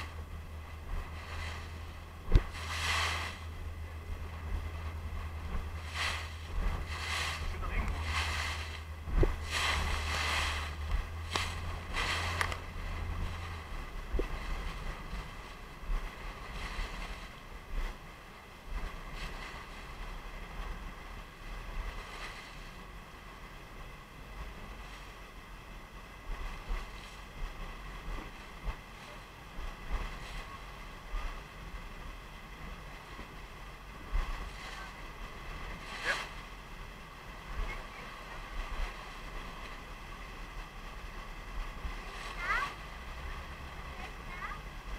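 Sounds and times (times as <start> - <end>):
boat motor droning: 0.0 - 44.9
rushing river water: 0.0 - 44.9
wind buffeting the microphone: 0.0 - 44.9.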